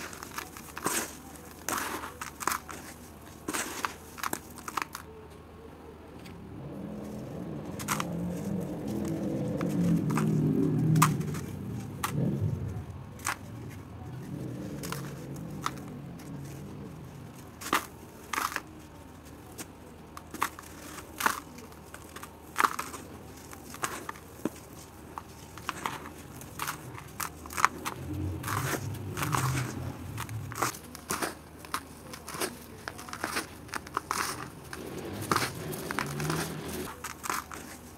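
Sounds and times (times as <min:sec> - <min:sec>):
dirt block cracking and crunching: 0:00.0 - 0:05.2, 0:06.9 - 0:37.9
falling crumbs rustling: 0:00.0 - 0:05.2, 0:06.6 - 0:37.9.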